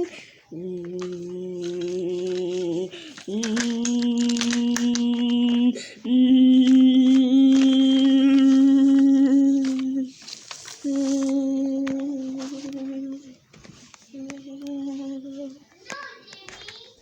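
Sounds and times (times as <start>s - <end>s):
person humming long notes: 0.0s - 13.4s, 14.1s - 15.6s.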